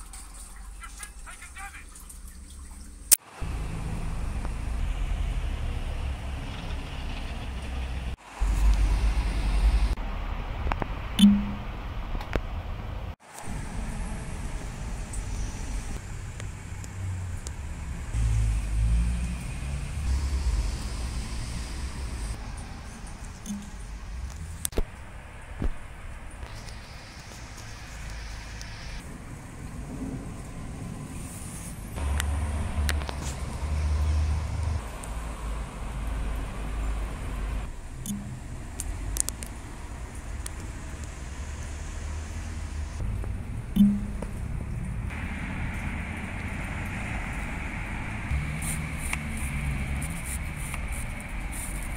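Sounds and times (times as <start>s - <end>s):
passing cars rumbling: 3.2s - 26.4s, 27.4s - 51.9s.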